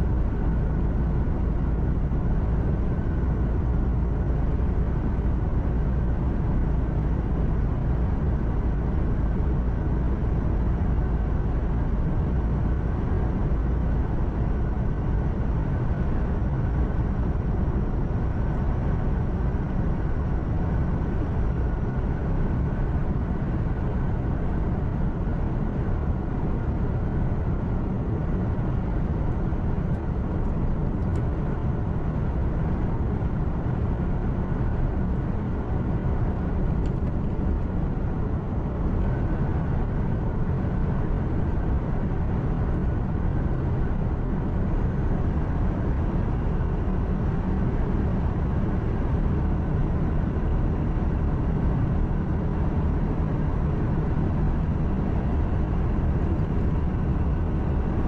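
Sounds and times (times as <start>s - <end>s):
truck engine and road noise droning: 0.0s - 58.0s.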